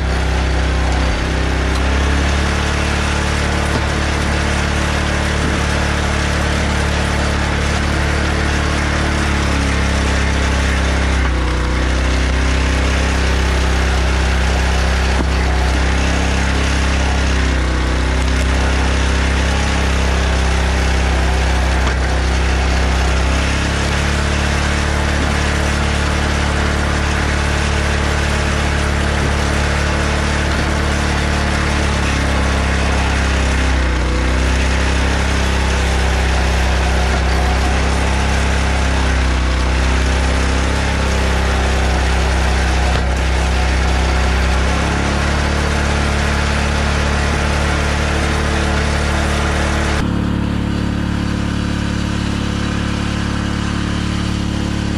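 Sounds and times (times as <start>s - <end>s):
log splitter engine running: 0.0s - 54.9s.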